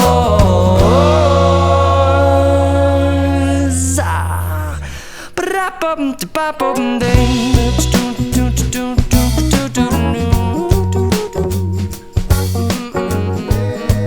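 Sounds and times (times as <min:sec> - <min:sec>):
pop song with held sung note: 0:00.0 - 0:14.0.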